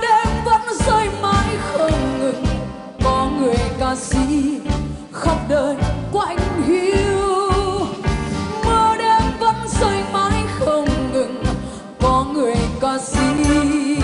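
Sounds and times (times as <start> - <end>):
band accompaniment: 0.0 - 14.0
bass and drum beat: 0.0 - 14.0
woman singing a slow ballad: 0.0 - 14.0.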